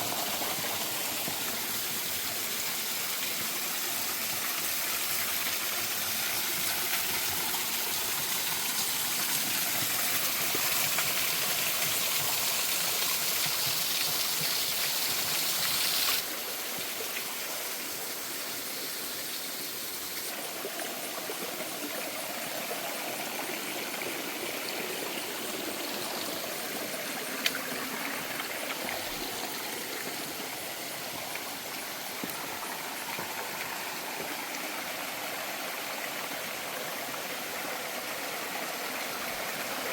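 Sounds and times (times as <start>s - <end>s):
water rushing: 0.0s - 19.0s, 19.7s - 39.9s.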